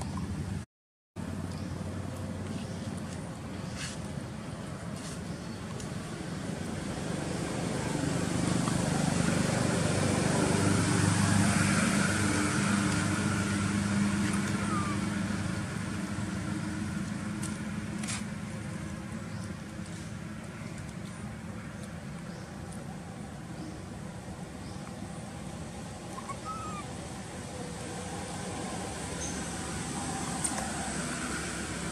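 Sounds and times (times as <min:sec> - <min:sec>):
vehicle engine passing by: 0:05.0 - 0:31.9.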